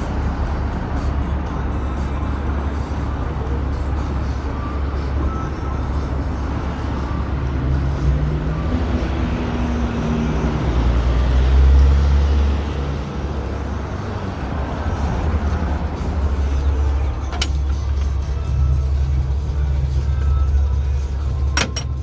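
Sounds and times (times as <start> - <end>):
street traffic: 0.0 - 22.0
vehicle engine rumbling: 0.0 - 22.0.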